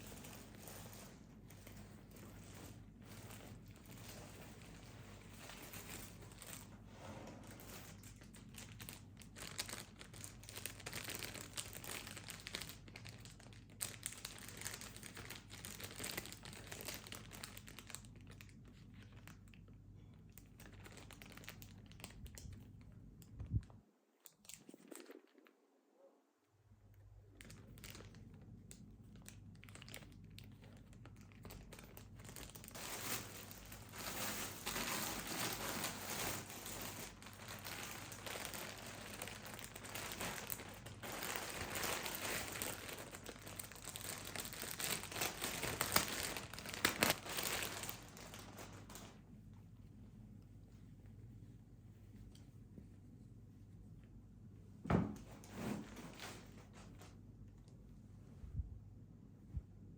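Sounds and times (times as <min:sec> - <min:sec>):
packaging crinkling and rustling: 0:00.0 - 0:25.6, 0:27.3 - 0:49.3, 0:55.1 - 0:57.2.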